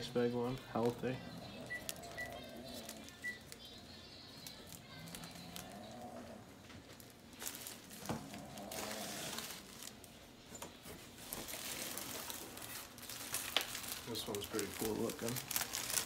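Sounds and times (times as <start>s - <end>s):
plastic sleeves crinkling: 0.0s - 16.0s.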